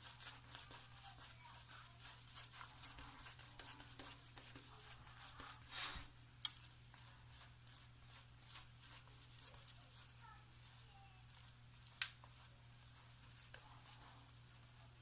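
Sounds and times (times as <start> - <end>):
low steady hum: 0.0 - 15.0
shaving brush swishing lather: 0.0 - 15.0.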